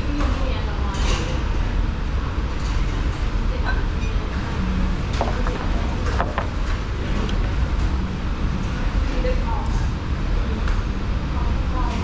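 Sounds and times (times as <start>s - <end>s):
restaurant background rumble: 0.0s - 12.0s.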